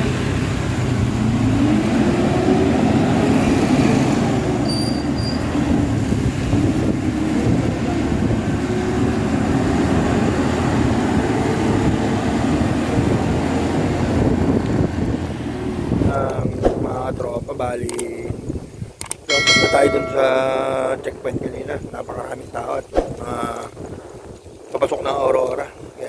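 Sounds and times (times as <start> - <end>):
wind and road noise: 0.0 - 26.0.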